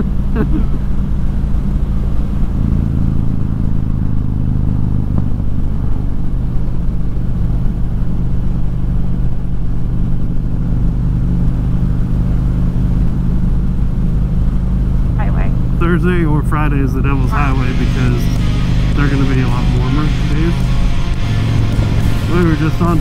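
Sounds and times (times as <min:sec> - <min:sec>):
motorcycle engine cruising: 0:00.0 - 0:23.0
road noise: 0:00.0 - 0:23.0.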